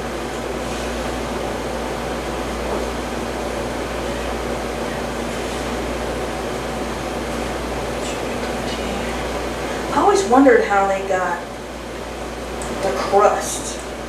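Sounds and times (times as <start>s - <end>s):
fan whirring: 0.0s - 14.0s.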